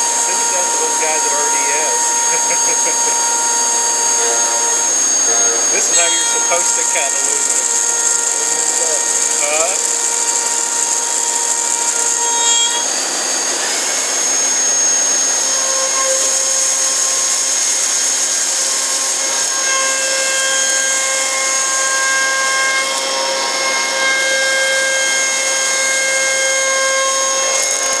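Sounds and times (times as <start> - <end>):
hiss of chips and spindle: 0.0 - 28.0
milling machine cutting whine: 0.0 - 28.0.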